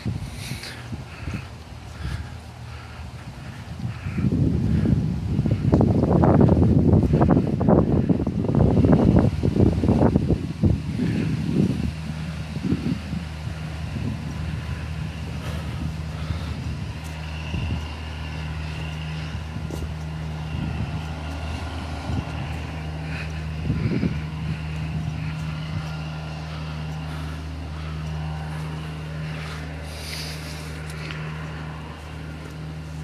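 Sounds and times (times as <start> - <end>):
car engine running: 0.0 - 33.0
road noise: 0.0 - 33.0.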